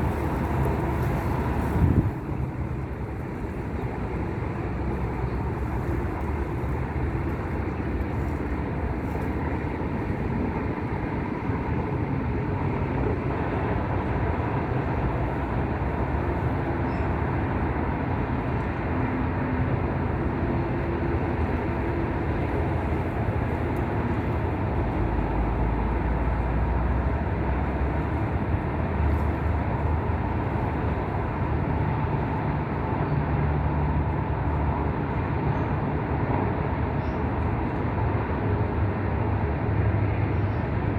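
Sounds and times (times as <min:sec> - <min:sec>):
wind blowing across microphone: 0:00.0 - 0:40.9.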